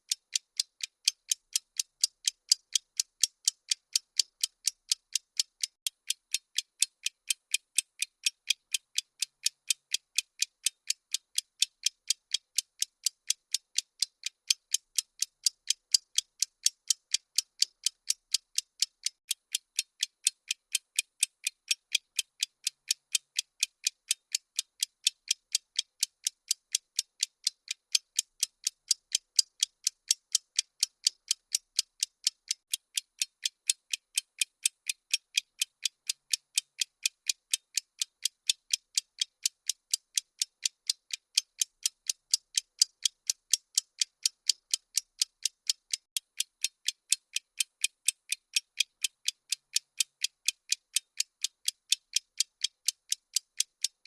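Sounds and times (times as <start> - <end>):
timer ticking: 0.0 - 54.0.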